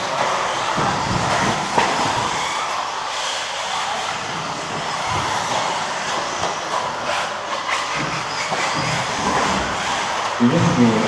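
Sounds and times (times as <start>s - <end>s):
motor and tyre noise: 0.0s - 11.0s
rc cars racing: 0.0s - 11.0s.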